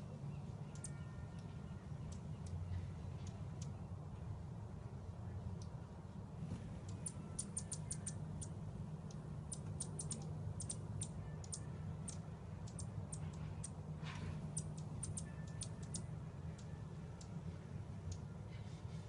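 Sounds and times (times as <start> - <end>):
hummingbird chip notes: 0.0 - 4.0, 6.8 - 18.6.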